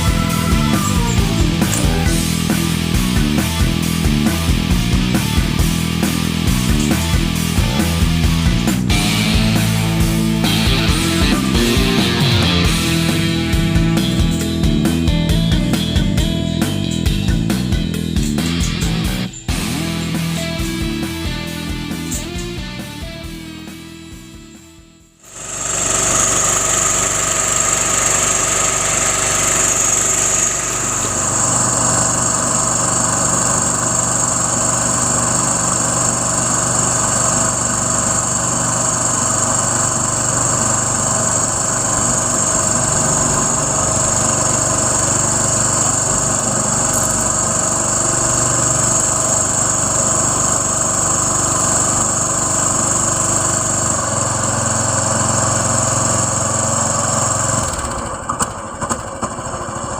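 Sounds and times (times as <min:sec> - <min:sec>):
small engine running: 0:00.0 - 0:24.3, 0:25.0 - 0:59.9.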